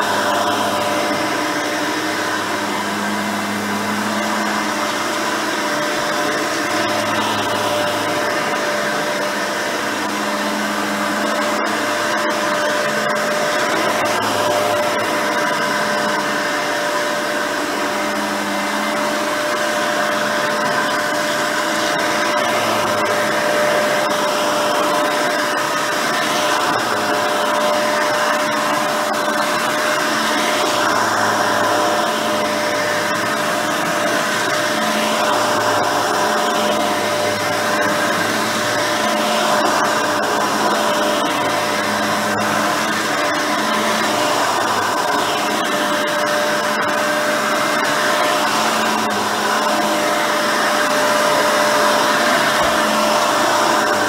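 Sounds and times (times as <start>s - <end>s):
low hum: 0.0s - 54.0s
vacuum cleaner whine: 0.0s - 54.0s.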